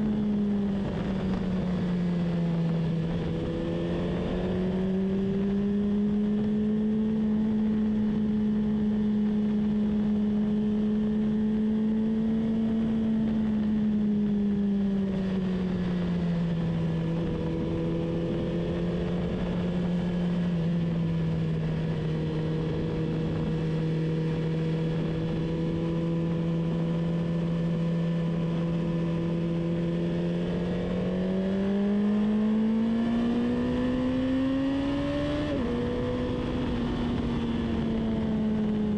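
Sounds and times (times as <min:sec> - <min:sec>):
car engine at high revs: 0:00.0 - 0:38.9.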